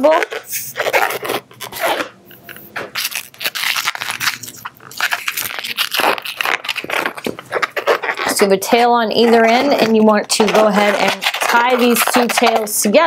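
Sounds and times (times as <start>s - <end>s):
latex balloon rubbing and crackling: 0.0s - 13.0s.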